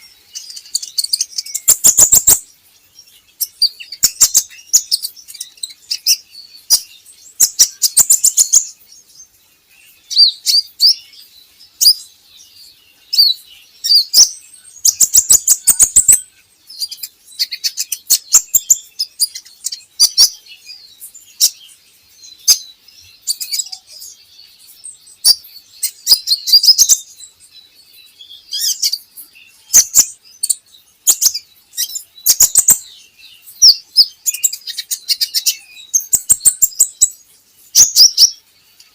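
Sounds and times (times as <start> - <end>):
sunbird chirping and trilling: 0.0 - 38.9.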